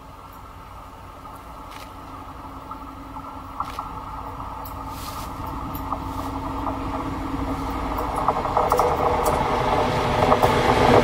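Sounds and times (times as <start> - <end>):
diesel locomotive engine: 0.0 - 11.0
steady low hum: 0.0 - 11.0.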